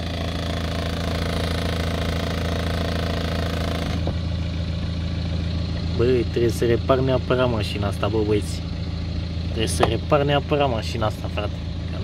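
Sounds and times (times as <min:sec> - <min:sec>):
diesel car engine idling: 0:00.0 - 0:12.0.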